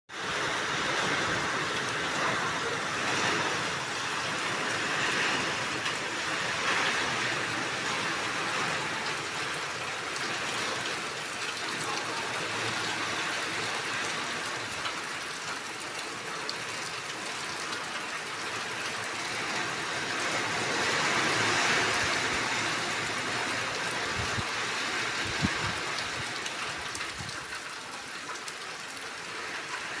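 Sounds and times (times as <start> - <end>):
heavy rain hiss: 0.1 - 30.0.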